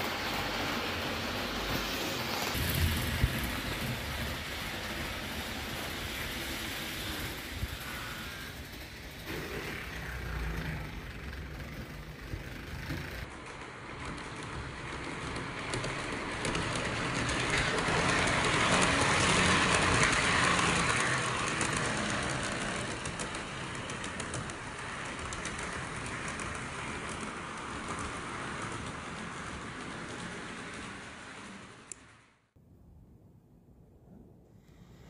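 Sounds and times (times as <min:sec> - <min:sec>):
wheels clicking over rail joints: 0:00.0 - 0:32.2
model train rumbling: 0:00.0 - 0:32.3.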